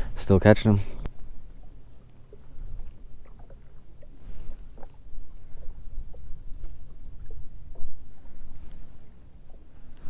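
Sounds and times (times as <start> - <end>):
low wind rumble: 0.0 - 10.0
water lapping against boat hull: 0.0 - 10.0.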